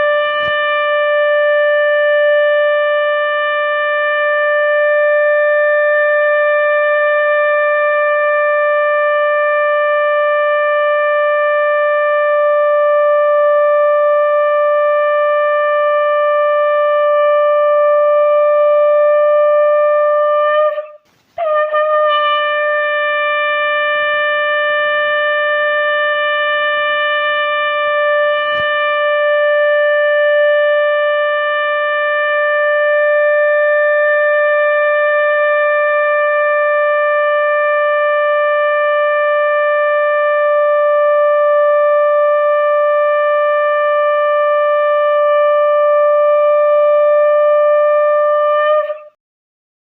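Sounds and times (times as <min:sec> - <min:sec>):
conch shell blown in long note: 0:00.0 - 0:49.2.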